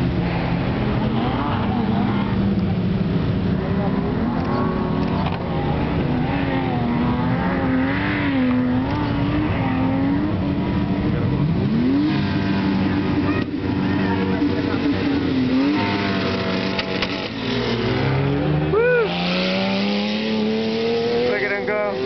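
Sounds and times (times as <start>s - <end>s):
steady rush of noise: 0.0s - 22.0s
suv engines revving: 0.0s - 22.0s.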